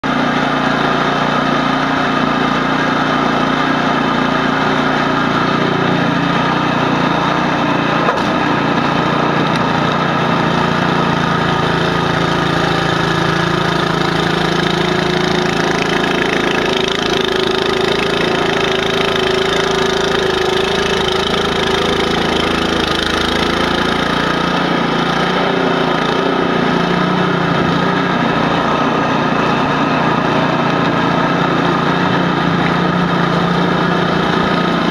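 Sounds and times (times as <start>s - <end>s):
snowblower engine running: 0.0s - 34.9s.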